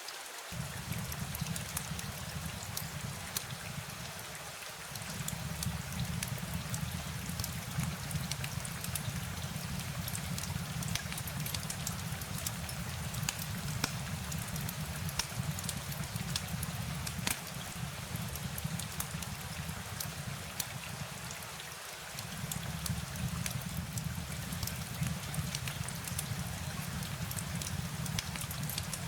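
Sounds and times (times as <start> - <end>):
low rain rumble: 0.0 - 29.0
rain drops ticking: 0.2 - 29.0.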